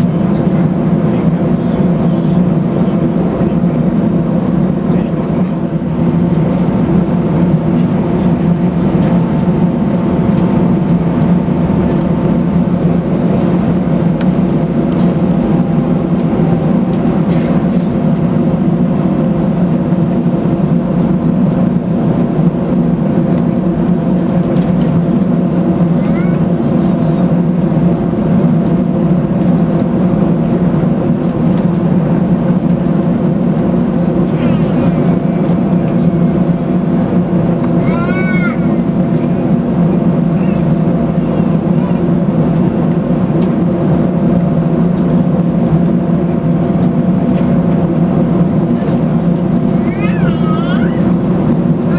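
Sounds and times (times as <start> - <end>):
airliner cabin engine drone: 0.0 - 51.9.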